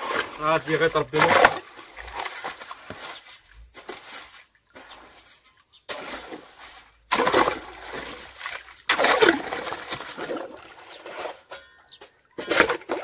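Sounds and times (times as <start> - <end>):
hoe digging mud: 0.0 - 13.0
water splashing and sloshing: 0.0 - 13.0.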